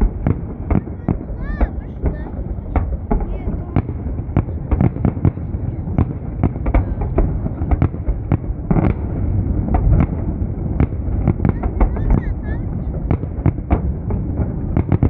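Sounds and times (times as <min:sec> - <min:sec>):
fireworks bangs: 0:00.0 - 0:15.0
low rumble: 0:00.0 - 0:15.0.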